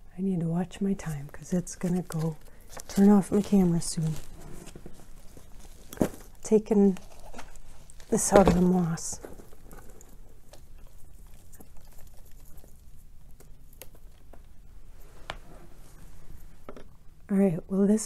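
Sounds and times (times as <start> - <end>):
soft rustling: 0.7 - 16.7.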